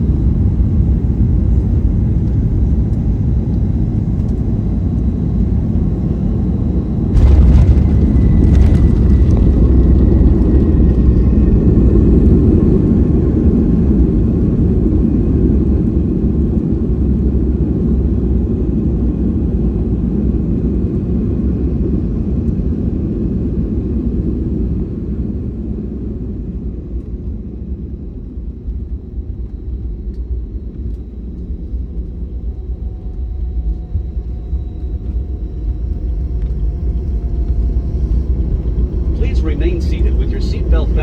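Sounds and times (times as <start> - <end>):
aircraft cabin rumble: 0.0 - 41.0.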